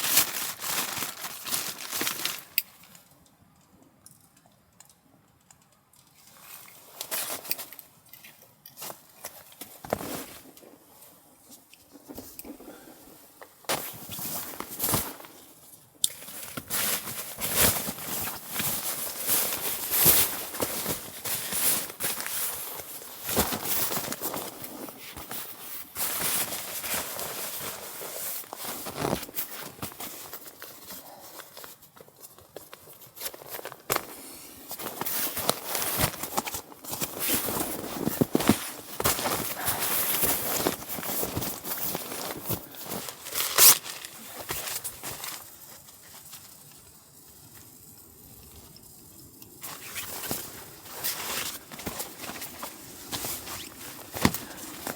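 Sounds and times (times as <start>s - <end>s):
crunching and rustling: 0.0s - 3.3s, 6.0s - 47.8s, 48.4s - 54.9s.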